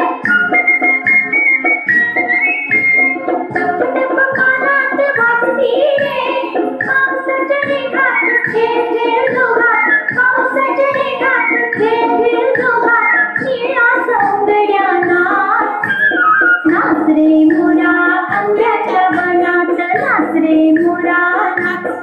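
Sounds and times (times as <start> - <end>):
high singing voice: 0.0 - 22.0
instrumental backing with beat: 0.0 - 22.0.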